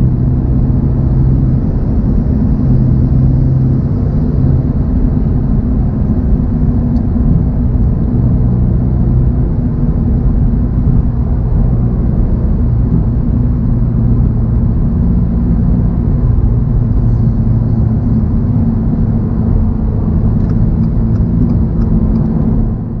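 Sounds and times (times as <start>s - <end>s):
car engine droning: 0.0s - 23.0s
road noise: 0.0s - 23.0s.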